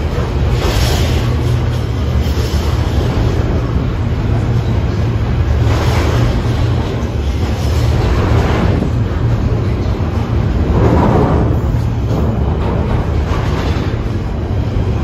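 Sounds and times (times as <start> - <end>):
rushing train noise: 0.0 - 15.0
train rumbling past: 0.0 - 15.0.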